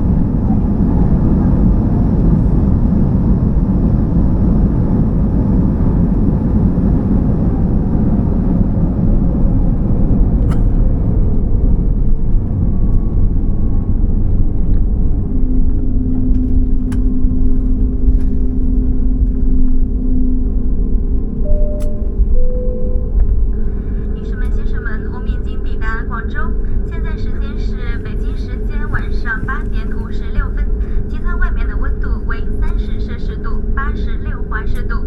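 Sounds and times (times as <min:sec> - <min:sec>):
heavy rumble of wheels and engines: 0:00.0 - 0:35.0
steady hum: 0:00.0 - 0:35.0.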